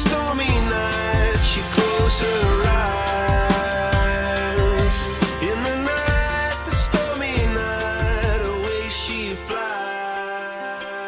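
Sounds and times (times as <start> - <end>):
pop song chords: 0.0 - 11.0.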